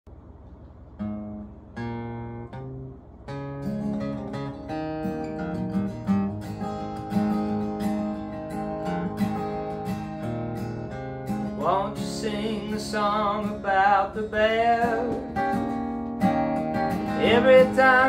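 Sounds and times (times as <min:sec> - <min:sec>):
acoustic guitar playing: 0:00.2 - 0:18.0.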